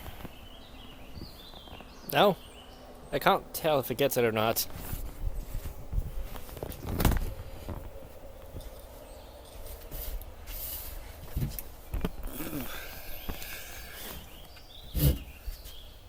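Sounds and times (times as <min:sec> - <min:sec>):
low outdoor rumble: 0:00.0 - 0:15.6.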